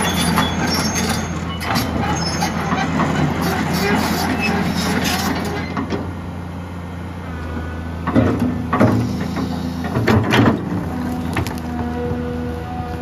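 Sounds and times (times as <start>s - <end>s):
excavator diesel engine running: 0.0s - 13.0s
faint hydraulic whine: 0.0s - 13.0s.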